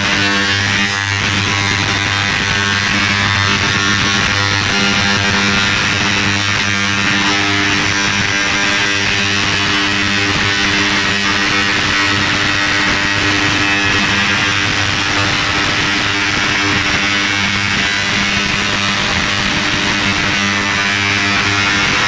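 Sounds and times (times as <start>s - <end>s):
ultrasonic cleaner buzzing: 0.0s - 22.0s.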